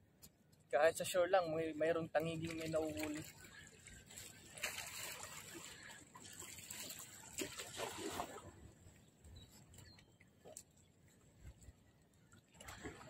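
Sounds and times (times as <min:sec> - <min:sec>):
seawater lapping against shore: 0:00.1 - 0:13.0.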